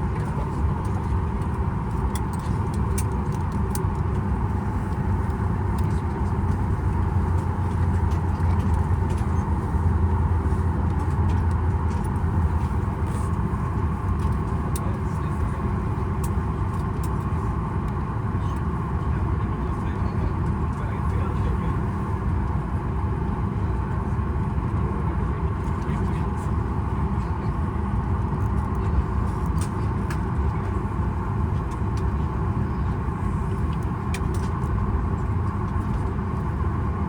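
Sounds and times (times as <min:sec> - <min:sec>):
aircraft cabin drone: 0:00.0 - 0:37.0.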